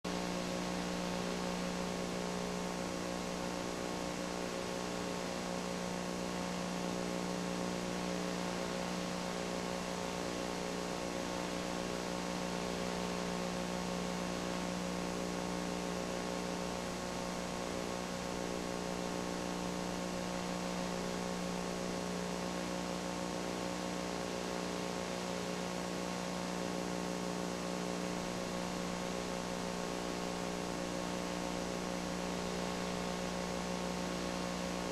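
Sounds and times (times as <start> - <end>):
electrical hum with hiss: 0.1 - 34.9.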